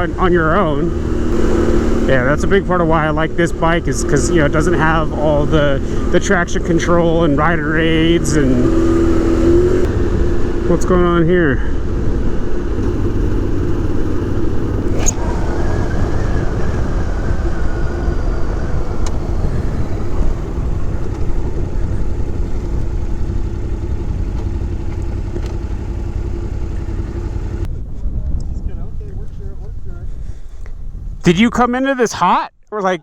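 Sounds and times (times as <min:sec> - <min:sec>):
motorcycle engine running: 0:00.0 - 0:27.7.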